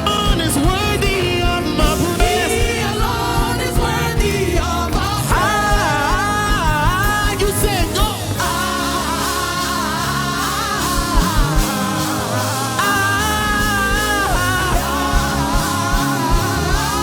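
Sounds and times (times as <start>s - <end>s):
gliding melodic lead: 0.0s - 17.0s
gospel band playing: 0.0s - 17.0s
steady drum beat: 0.0s - 17.0s.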